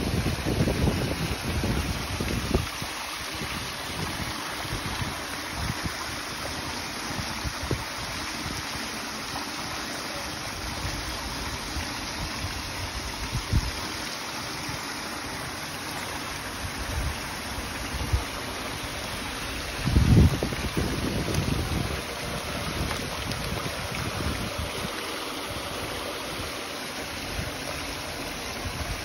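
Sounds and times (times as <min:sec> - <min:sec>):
water splashing over stone: 0:00.0 - 0:29.0.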